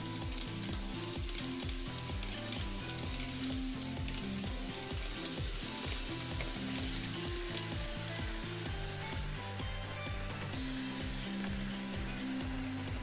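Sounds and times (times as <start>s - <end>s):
crackling hiss: 0.0s - 13.0s
music with beat and bass line: 0.0s - 13.0s.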